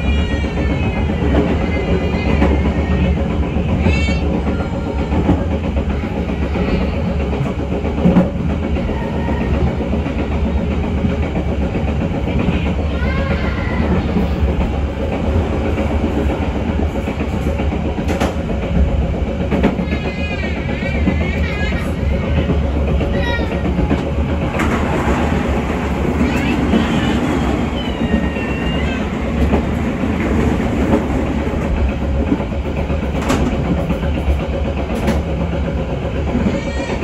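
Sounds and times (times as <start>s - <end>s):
train wheels clattering on rails: 0.0s - 37.0s.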